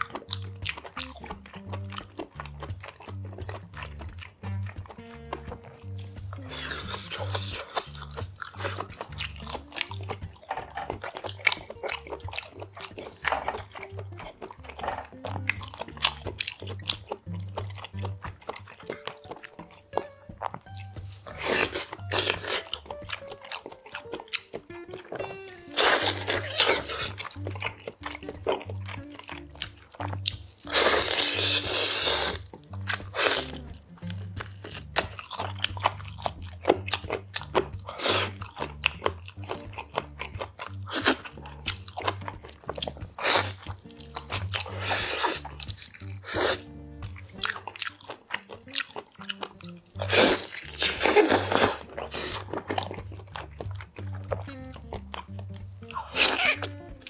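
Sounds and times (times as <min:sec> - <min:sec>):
chewing and biting: 0:00.0 - 0:57.0
faint background music: 0:00.0 - 0:57.0
wet mouth noises: 0:00.0 - 0:57.0.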